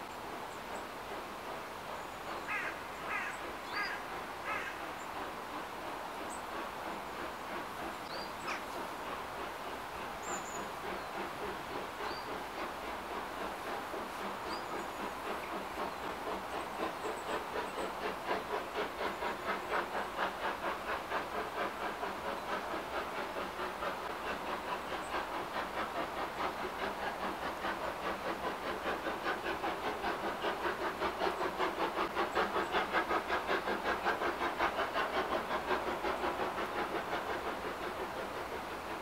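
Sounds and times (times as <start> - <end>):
steam locomotive chuffing: 0.0 - 39.0.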